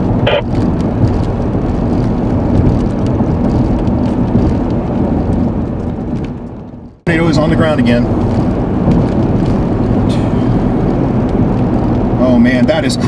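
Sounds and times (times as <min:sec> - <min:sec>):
car engine hum: 0:00.0 - 0:13.0
road and wind noise: 0:00.0 - 0:13.0.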